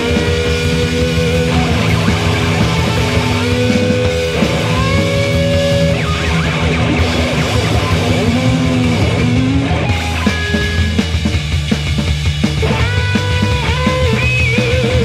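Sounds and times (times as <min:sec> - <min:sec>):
electric guitar long held notes: 0:00.0 - 0:11.5, 0:12.6 - 0:15.0
rock band playing: 0:00.0 - 0:15.0.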